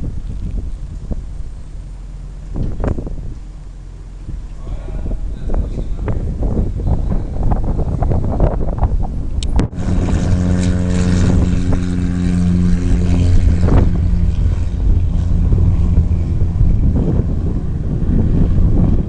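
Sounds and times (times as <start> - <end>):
propeller aircraft engines droning: 0.0 - 19.0
wind buffeting microphone: 0.0 - 19.0.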